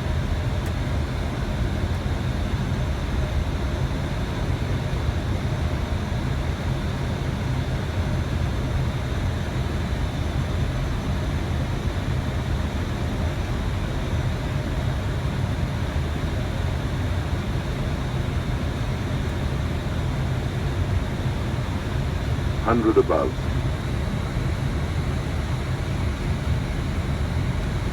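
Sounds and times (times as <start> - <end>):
cockpit airflow and engine rumble: 0.0 - 27.9.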